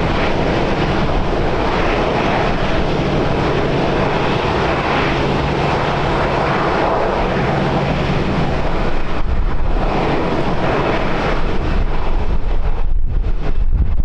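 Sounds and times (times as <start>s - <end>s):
airliner engines passing: 0.0s - 14.0s
wind buffeting microphone: 0.0s - 14.0s.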